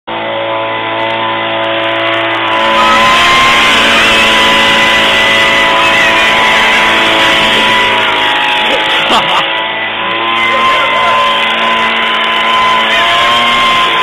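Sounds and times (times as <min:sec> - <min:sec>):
leaf blower running: 0:00.1 - 0:14.0.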